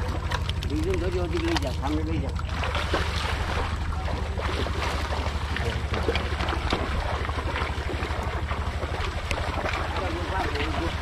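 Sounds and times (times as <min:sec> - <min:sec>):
boat engine running: 0:00.0 - 0:11.0
water splashing from wading: 0:00.0 - 0:11.0.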